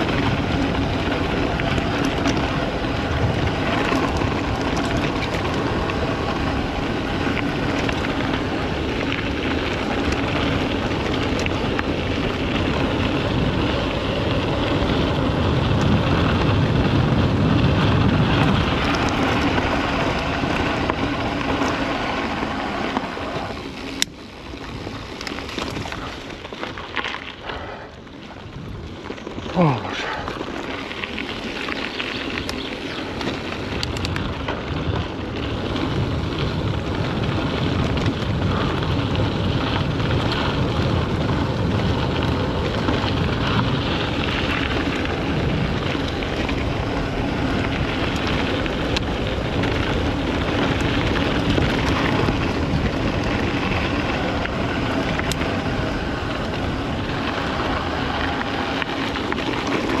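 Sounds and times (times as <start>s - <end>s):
wind on microphone: 0.0s - 23.6s, 27.4s - 60.0s
bike tyre noise on trail: 0.0s - 60.0s.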